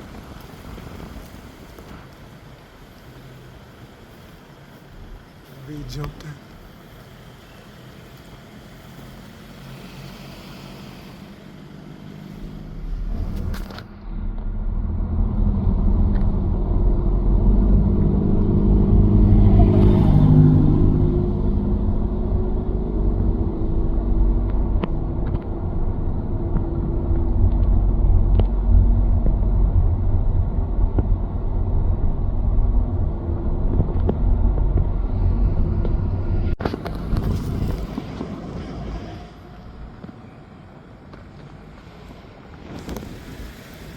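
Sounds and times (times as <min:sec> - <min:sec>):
vehicle engine rumbling: 0:00.0 - 0:43.9.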